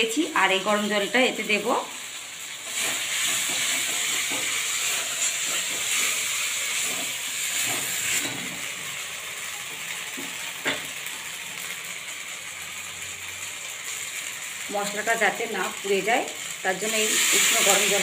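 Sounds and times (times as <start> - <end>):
spice paste sizzling in oil: 0.0 - 18.0.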